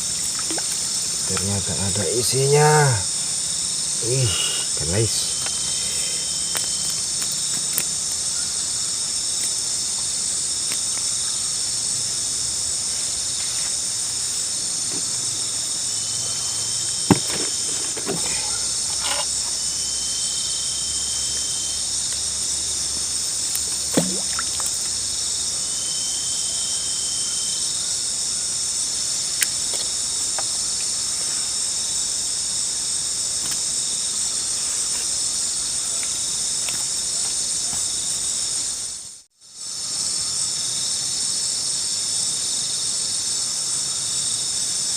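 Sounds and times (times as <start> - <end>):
chorus of night insects: 0.0 - 44.9
lower-pitched insect calls: 0.0 - 44.9.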